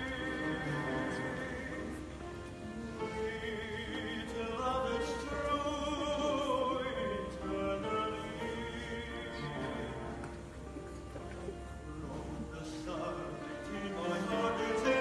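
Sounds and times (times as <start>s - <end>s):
man singing with vibrato: 0.0s - 10.6s, 11.6s - 15.0s
upright piano: 0.0s - 15.0s.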